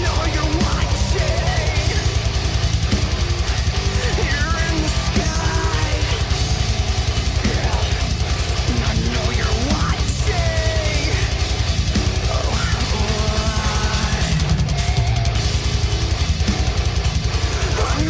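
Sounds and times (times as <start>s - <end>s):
distorted guitars: 0.0s - 18.0s
fast kick drum beat: 0.0s - 18.0s.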